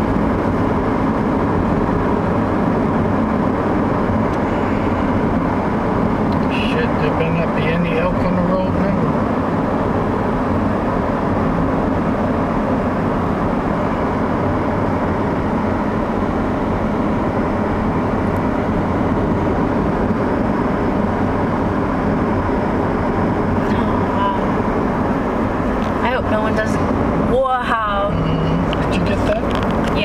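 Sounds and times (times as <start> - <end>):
car interior road noise: 0.0 - 30.0.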